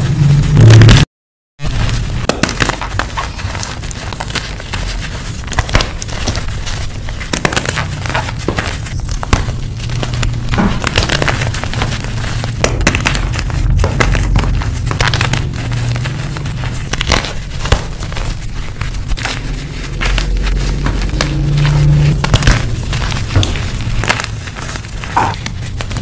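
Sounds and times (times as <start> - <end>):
chalk crunching by hand: 1.6 - 26.0.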